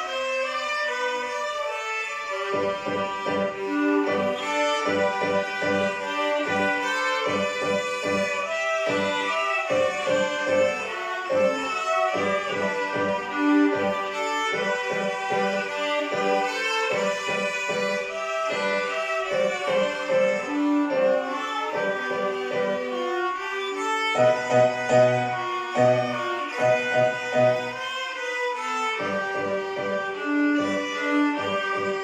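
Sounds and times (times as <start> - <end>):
violins playing a melody: 0.0 - 32.0.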